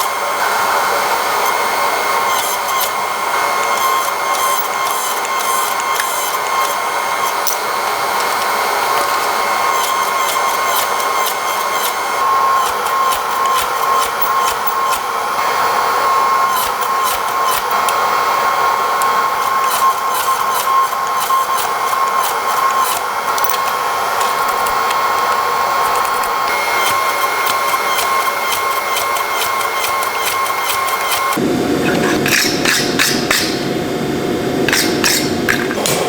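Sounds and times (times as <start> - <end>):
machine whirring with whine: 0.0 - 36.0.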